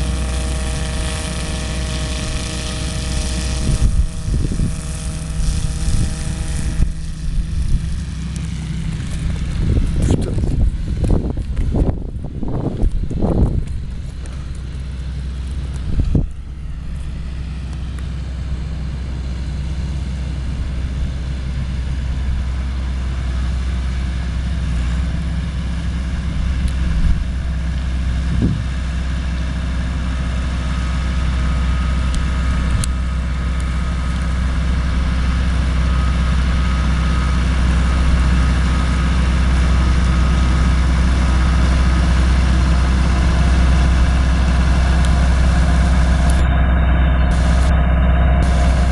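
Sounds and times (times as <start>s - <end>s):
shredder running: 0.0s - 48.9s
tractor diesel engine droning: 0.0s - 48.9s.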